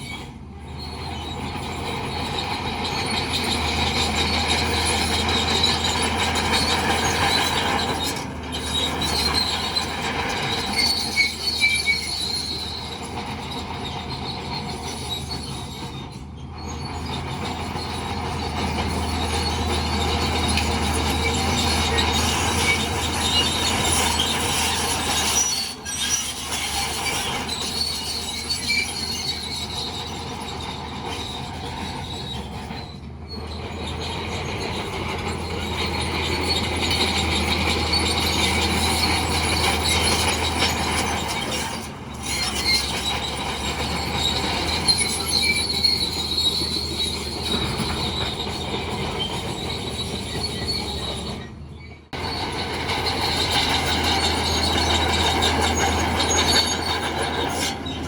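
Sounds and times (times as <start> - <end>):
diesel engine hum: 0.0 - 58.0
steel tracks squealing and clanking: 0.0 - 58.0.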